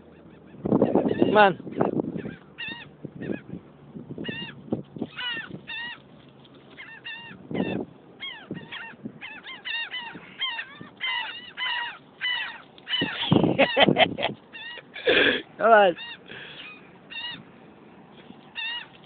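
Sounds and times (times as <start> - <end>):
terns calling: 0.0 - 3.6, 4.2 - 6.1, 6.7 - 17.6, 18.5 - 19.0.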